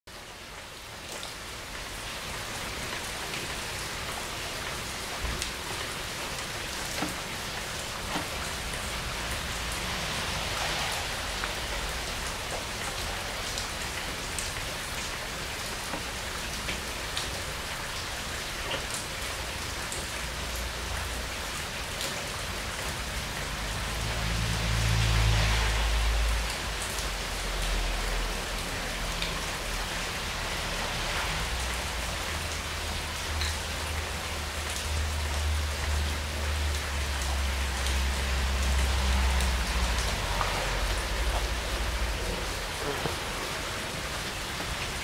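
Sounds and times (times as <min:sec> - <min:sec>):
heavy rain on leaves: 0:00.1 - 0:45.0.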